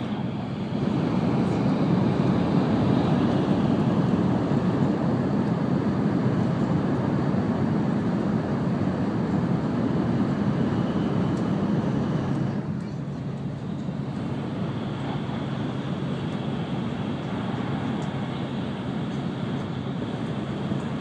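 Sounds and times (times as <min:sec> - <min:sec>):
train rumbling in tunnel: 0:00.0 - 0:21.0.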